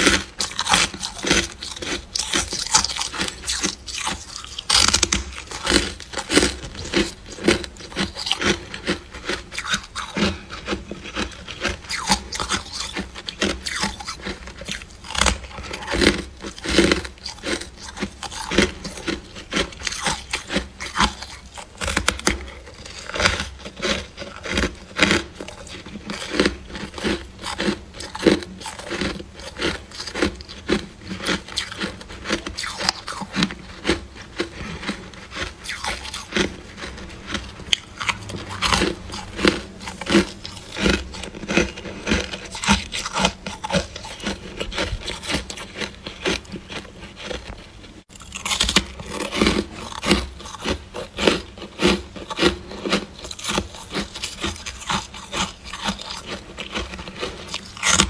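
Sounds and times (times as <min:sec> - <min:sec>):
frost crunching: 0:00.0 - 0:58.0.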